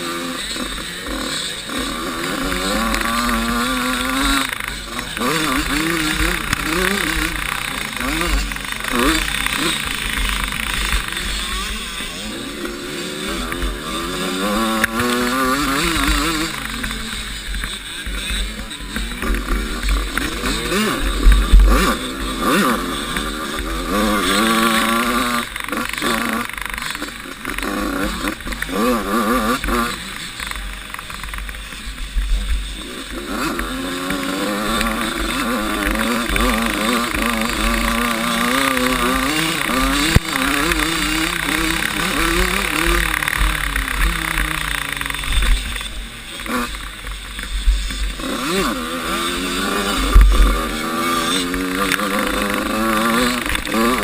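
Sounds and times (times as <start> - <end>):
motocross bike accelerating: 0.0 - 54.0.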